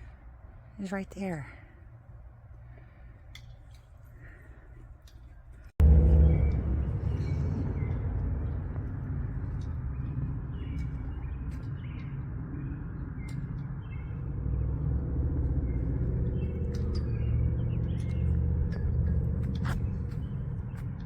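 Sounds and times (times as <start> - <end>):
low engine rumble: 2.0 - 21.0
small birds chirping: 2.8 - 21.0.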